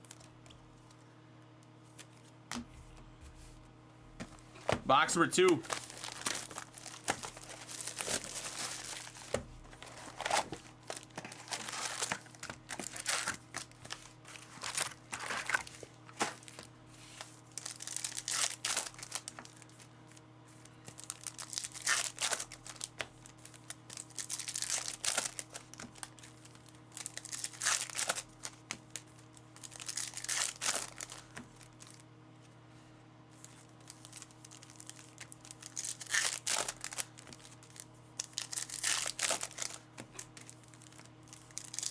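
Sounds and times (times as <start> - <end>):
wrappers tearing and crinkling: 4.6 - 19.9, 20.9 - 32.0, 33.4 - 41.9.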